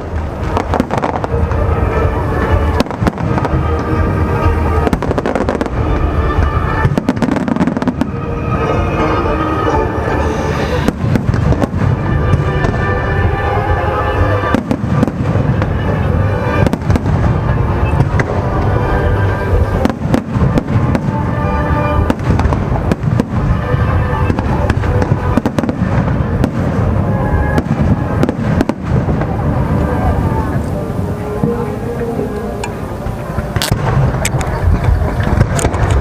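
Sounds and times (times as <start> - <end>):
fireworks booming and crackling: 0.0 - 36.0
music playing: 0.0 - 36.0.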